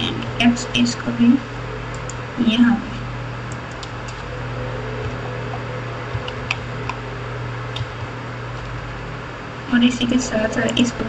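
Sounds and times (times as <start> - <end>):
recording hum and hiss: 0.0 - 11.0.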